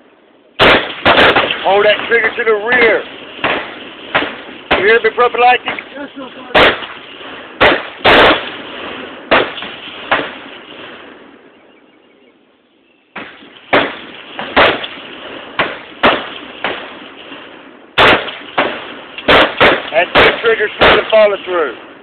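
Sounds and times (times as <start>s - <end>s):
gunshots with ringing tail: 0.6s - 11.6s, 13.2s - 22.0s.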